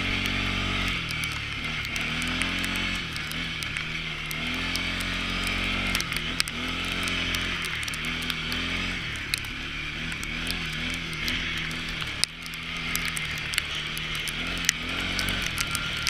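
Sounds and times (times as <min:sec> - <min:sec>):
atv engine revving: 0:00.0 - 0:16.0
sharp ticks: 0:00.0 - 0:16.0.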